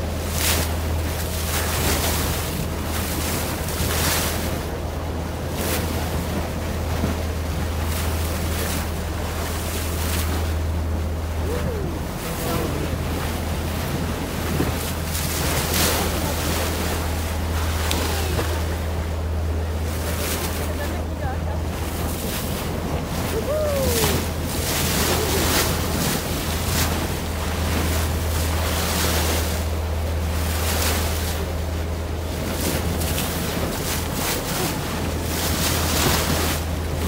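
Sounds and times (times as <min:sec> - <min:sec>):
steady low hum: 0:00.0 - 0:37.0
water splashing along hull: 0:00.0 - 0:37.0.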